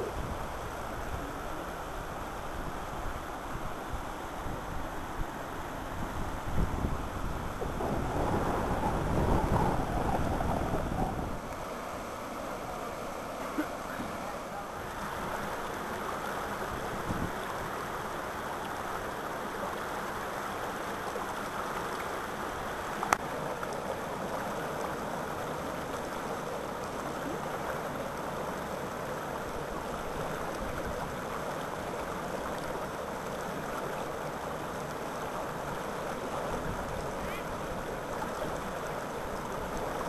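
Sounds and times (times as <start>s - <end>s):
stream rushing over boulders: 0.0s - 40.0s.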